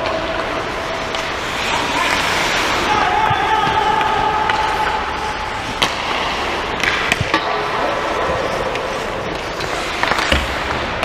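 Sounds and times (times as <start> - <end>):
hockey sticks and puck clacking: 0.0 - 11.0
skates scraping on ice: 0.0 - 11.0.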